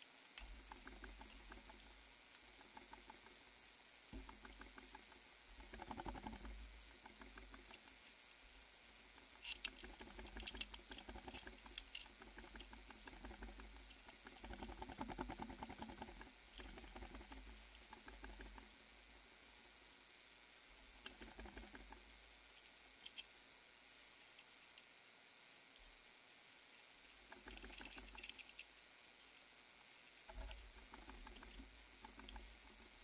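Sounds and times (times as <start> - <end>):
soft ticks: 0.0 - 29.4, 30.0 - 33.0.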